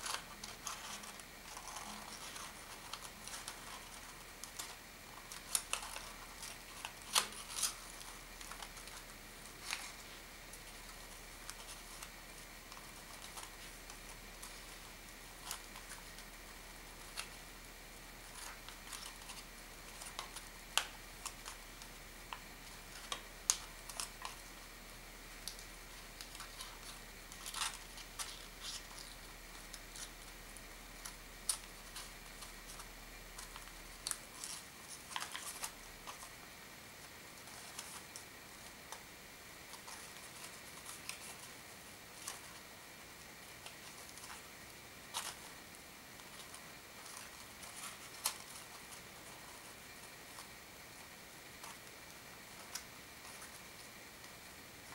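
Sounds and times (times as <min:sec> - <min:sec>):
paper rustling and crinkling: 0:00.0 - 0:17.4, 0:25.4 - 0:39.0, 0:39.6 - 0:42.7, 0:43.5 - 0:54.9.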